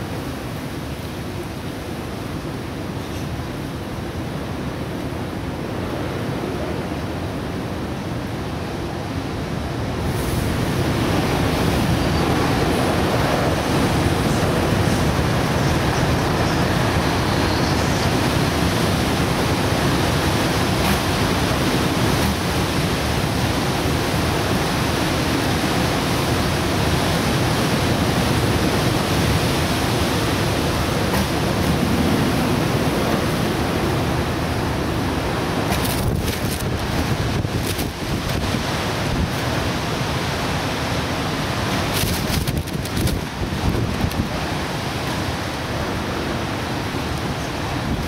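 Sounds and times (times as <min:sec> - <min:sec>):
strong wind blowing: 0:00.0 - 0:48.0.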